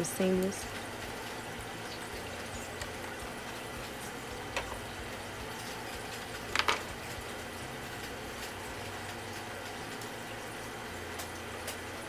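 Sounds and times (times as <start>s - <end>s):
sewing machine motor hum: 0.0s - 12.0s.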